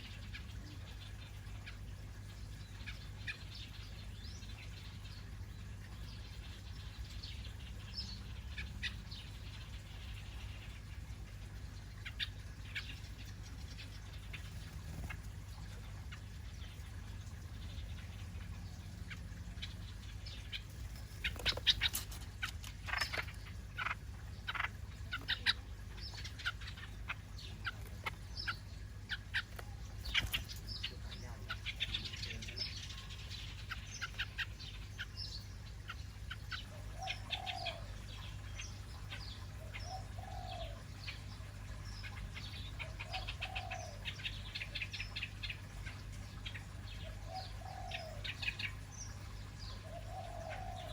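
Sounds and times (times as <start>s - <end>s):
small birds chirping: 0.0s - 50.9s
steady low hum: 0.0s - 50.9s.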